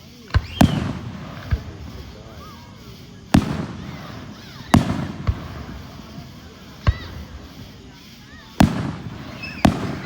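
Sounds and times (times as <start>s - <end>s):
fireworks bangs: 0.0s - 10.0s
rolling echo: 0.0s - 10.0s.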